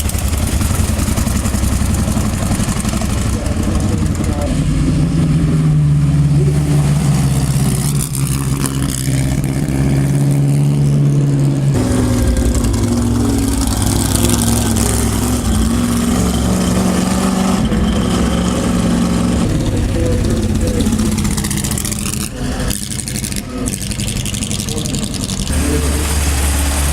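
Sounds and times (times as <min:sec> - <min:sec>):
race car engines running: 0:00.0 - 0:26.9.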